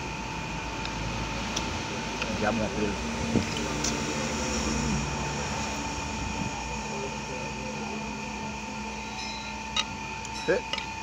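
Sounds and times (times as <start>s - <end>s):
mechanical hum with high whine: 0.0s - 11.0s.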